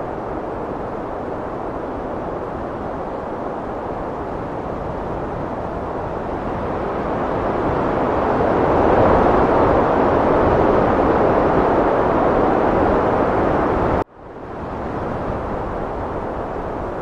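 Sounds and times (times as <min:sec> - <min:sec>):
heavy wind blowing: 0:00.0 - 0:17.0.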